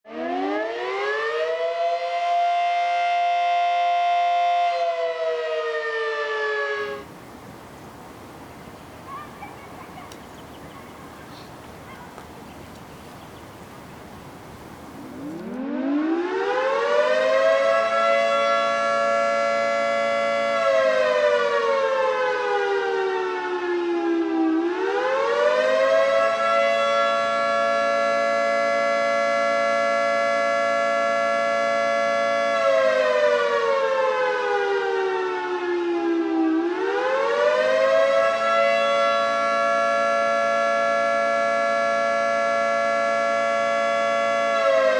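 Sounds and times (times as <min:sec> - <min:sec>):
warning siren wailing: 0:00.1 - 0:44.9.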